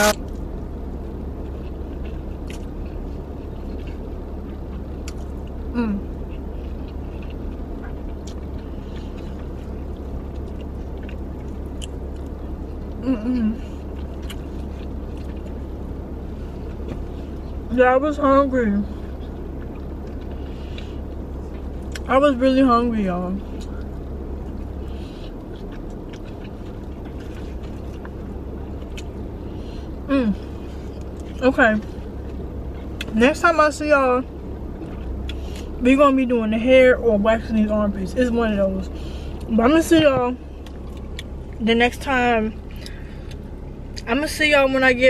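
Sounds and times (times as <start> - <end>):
car engine idling: 0.0 - 45.0
soft chewing: 0.1 - 17.7, 18.8 - 22.1, 23.4 - 33.2, 34.2 - 35.8, 38.8 - 44.1.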